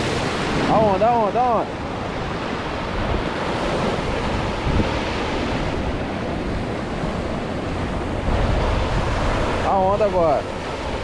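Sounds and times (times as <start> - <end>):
sea waves washing against rocks: 0.0 - 11.0.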